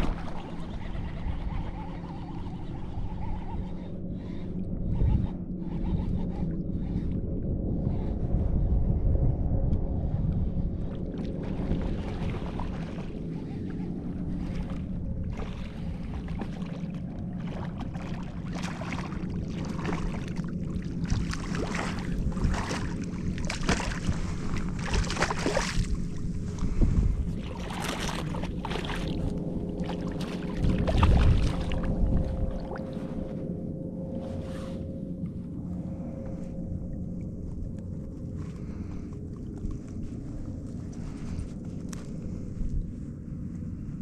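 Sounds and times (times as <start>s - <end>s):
water splashing and sloshing: 0.0s - 8.6s, 9.9s - 44.0s
faint steady hum: 0.0s - 44.0s
wind buffeting microphone: 0.0s - 44.0s.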